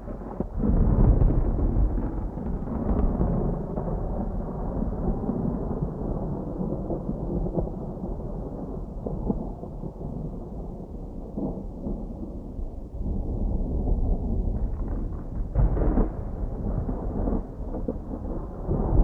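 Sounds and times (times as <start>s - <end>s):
distant thunder rumbling: 0.0s - 19.0s.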